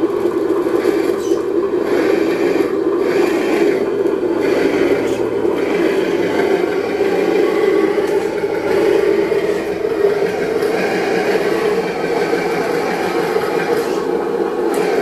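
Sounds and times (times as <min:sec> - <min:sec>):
simulated engine through small speaker: 0:00.0 - 0:15.0.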